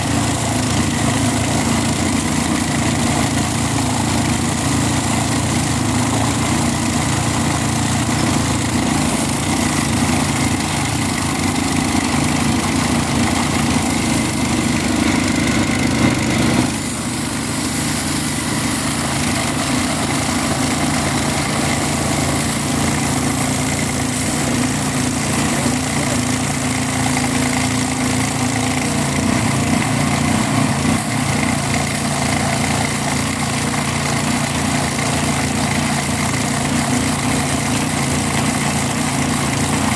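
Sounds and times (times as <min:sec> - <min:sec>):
abrasive disc grinding steel rail: 0:00.0 - 0:37.0
small engine running under load: 0:00.0 - 0:39.9.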